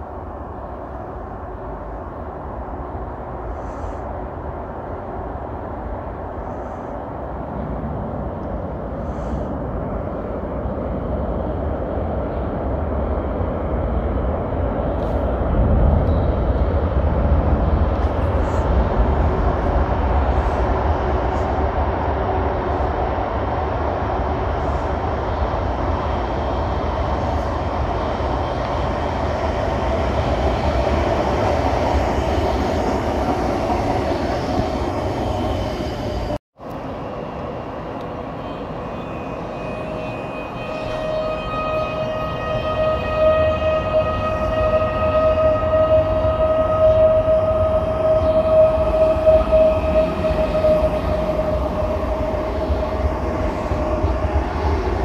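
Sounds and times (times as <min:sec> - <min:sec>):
train rumbling in tunnel: 0:00.0 - 0:55.0.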